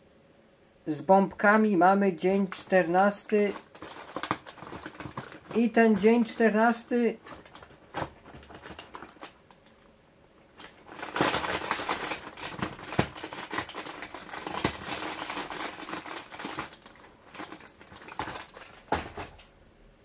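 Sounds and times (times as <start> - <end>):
packaging crinkling and rustling: 2.2 - 9.9, 10.5 - 19.6.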